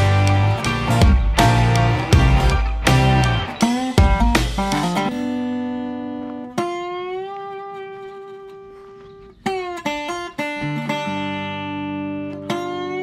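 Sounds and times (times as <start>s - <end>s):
guitar plucking slow notes: 0.0s - 13.0s.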